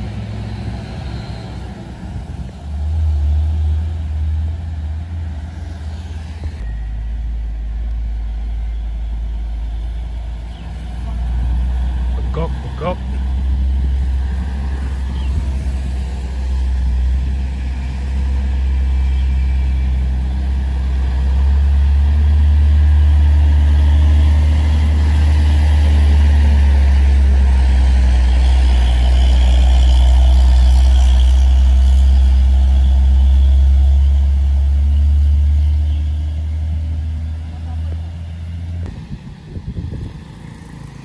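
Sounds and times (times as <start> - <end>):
truck diesel engine drone: 0.0 - 41.0.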